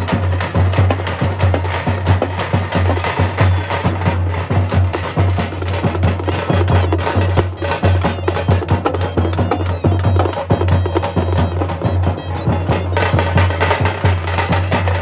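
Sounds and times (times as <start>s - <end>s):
folk drum ensemble playing: 0.0s - 15.0s.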